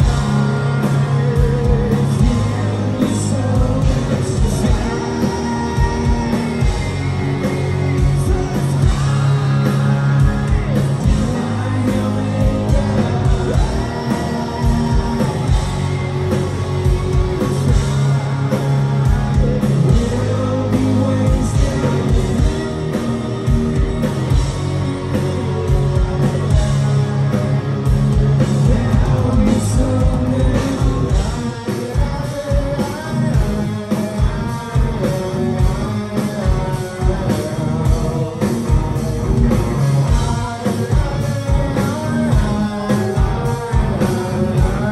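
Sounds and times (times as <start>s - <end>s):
bass: 0.0s - 44.9s
distorted electric guitars: 0.0s - 44.9s
drums: 0.0s - 44.9s
person singing lead vocal: 0.0s - 44.9s.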